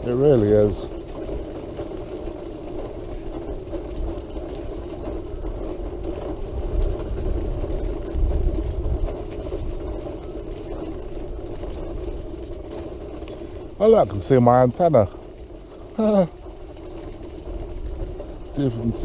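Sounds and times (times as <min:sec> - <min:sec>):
wheelchair motors humming: 0:00.0 - 0:19.0
wheels rumbling: 0:00.0 - 0:19.0.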